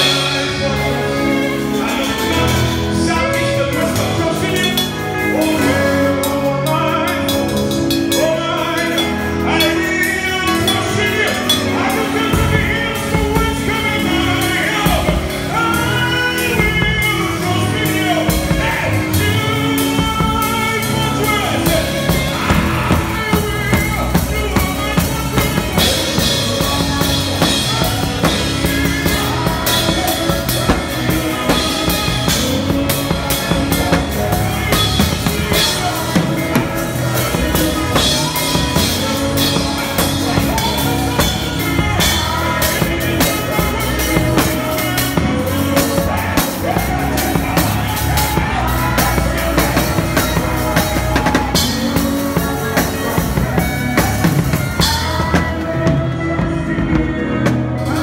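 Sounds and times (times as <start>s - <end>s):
drum kit beat: 0.0s - 58.0s.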